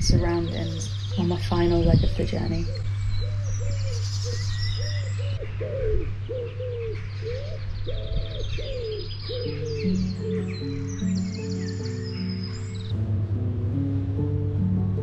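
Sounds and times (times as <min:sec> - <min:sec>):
songbirds chirping and trilling: 0:00.0 - 0:15.0
steady low hum: 0:00.0 - 0:15.0
pigeon cooing: 0:00.5 - 0:12.9.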